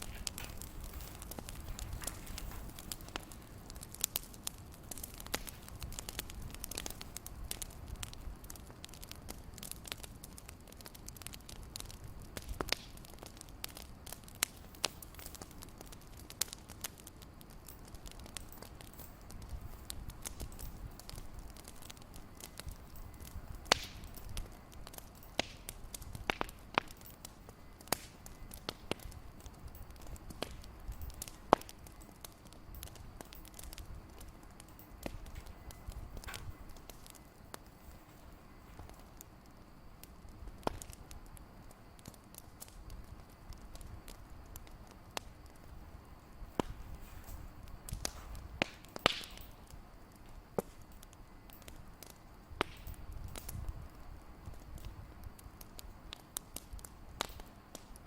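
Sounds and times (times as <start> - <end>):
soft low rumble of fire: 0.0 - 58.0
wood fire crackling and popping: 0.0 - 58.0.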